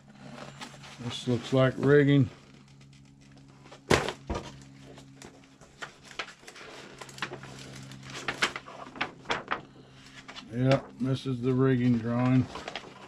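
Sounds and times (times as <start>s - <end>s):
paper sheets rustling and crinkling: 0.2s - 2.1s, 3.7s - 13.0s.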